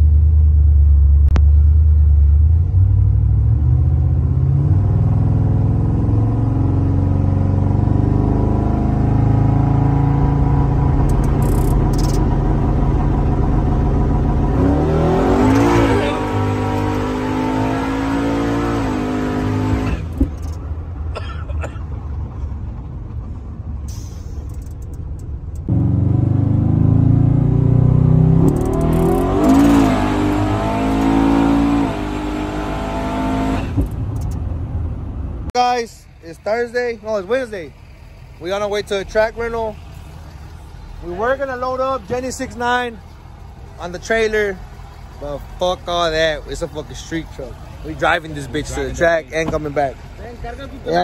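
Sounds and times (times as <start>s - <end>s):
truck engine revving: 1.6s - 21.8s, 23.9s - 35.5s, 36.6s - 51.0s.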